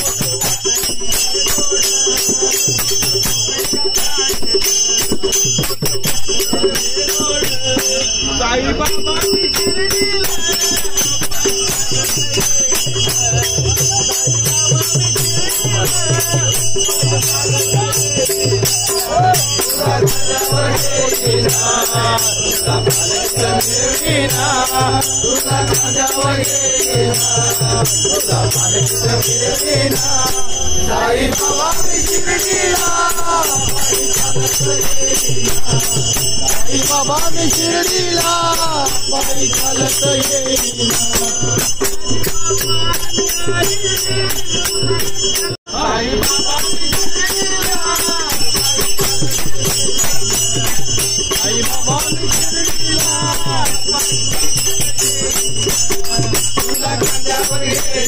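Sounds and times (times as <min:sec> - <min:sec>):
rhythmic hand-clapping: 0:00.0 - 0:08.1, 0:08.9 - 0:58.0
men singing devotional song: 0:00.0 - 0:58.0
small percussion: 0:00.0 - 0:58.0.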